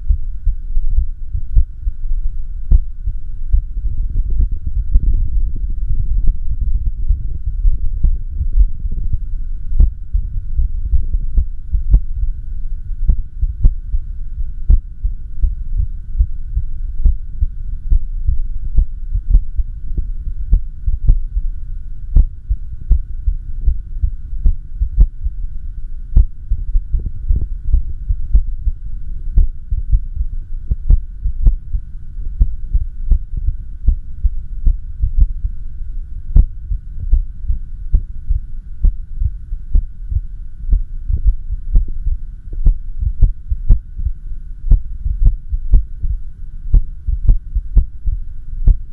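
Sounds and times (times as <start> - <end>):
steady hum: 0.0 - 48.9
heartbeat thuds with clicks: 0.1 - 12.4, 13.0 - 21.5, 22.1 - 25.4, 26.1 - 28.8, 29.4 - 35.6, 36.3 - 48.9.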